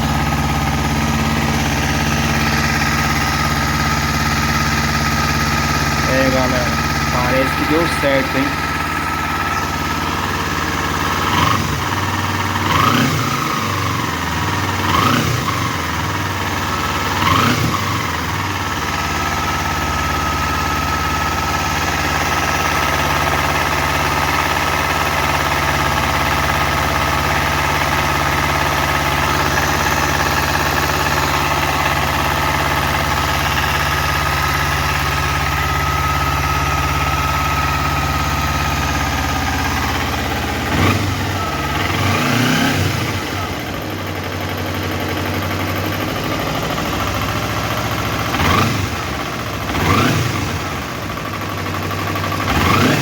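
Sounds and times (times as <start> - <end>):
motorcycle engine revving and idling: 0.0 - 53.0.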